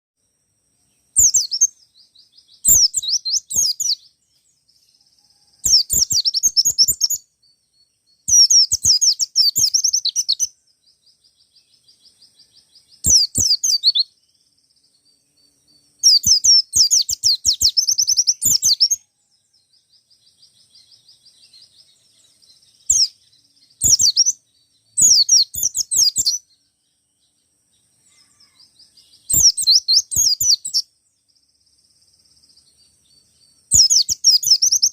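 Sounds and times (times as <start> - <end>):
soft bird twittering: 0.8 - 34.9.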